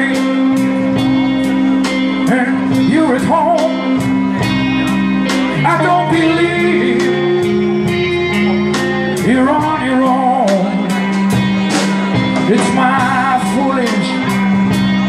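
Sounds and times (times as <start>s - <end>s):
bass guitar: 0.0s - 15.0s
bending guitar lead line: 0.0s - 15.0s
drum kit with cymbal hits: 0.0s - 15.0s
electric guitars: 0.0s - 15.0s.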